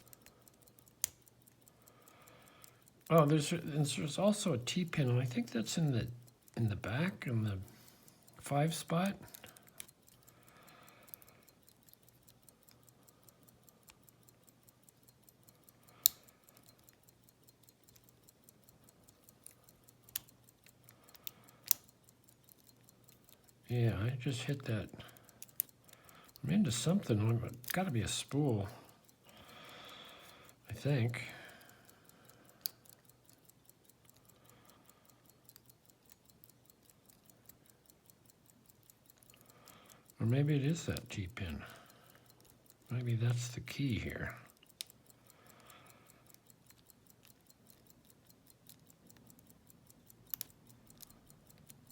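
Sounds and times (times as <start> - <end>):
lock pick ticking on pins: 0.0 - 51.9.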